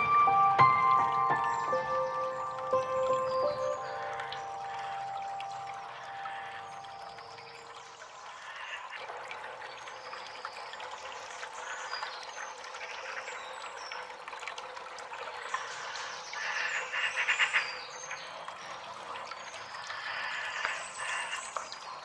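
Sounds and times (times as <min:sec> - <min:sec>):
water trickling: 0:00.0 - 0:22.0.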